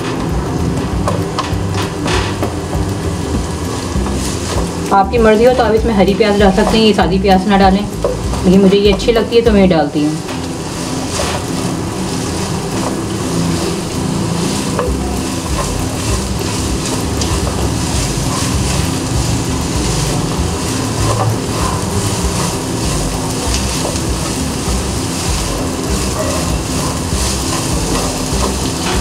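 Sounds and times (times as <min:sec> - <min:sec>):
spatula scraping and tapping pan: 0:00.0 - 0:09.5, 0:10.2 - 0:29.0
steady low hum: 0:00.0 - 0:29.0
vegetables sizzling in oil: 0:00.0 - 0:29.0.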